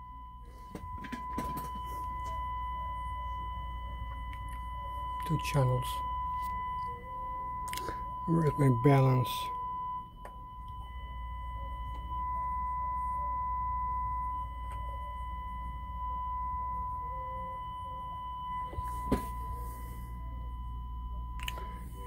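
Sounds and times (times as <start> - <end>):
faint low hum: 0.0 - 22.0
steady sine test tone: 0.0 - 22.0.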